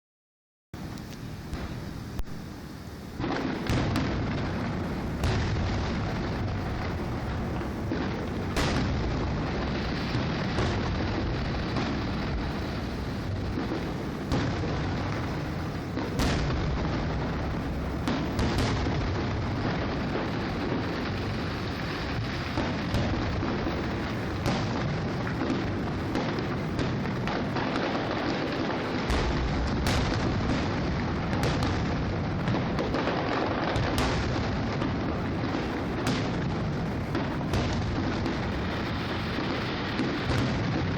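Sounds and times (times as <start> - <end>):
fireworks bursting bangs: 0.8 - 40.9
low rumble of booms: 0.8 - 40.9.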